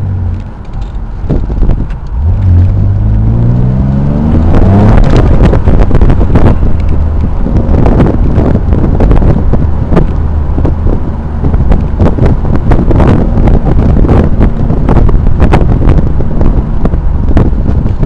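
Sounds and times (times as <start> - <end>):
car engine rumbling: 0.0 - 18.0
wind buffeting on microphone: 0.0 - 18.0.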